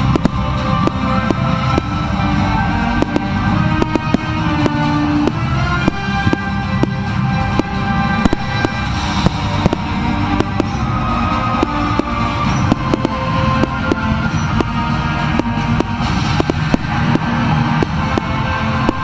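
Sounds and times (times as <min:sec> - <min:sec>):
fireworks bursting: 0:00.0 - 0:19.0
music playing: 0:00.0 - 0:19.0.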